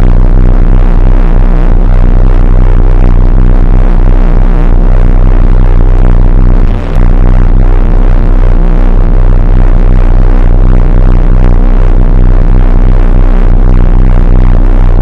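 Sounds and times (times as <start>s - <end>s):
distorted loudspeaker buzz: 0.0s - 15.0s.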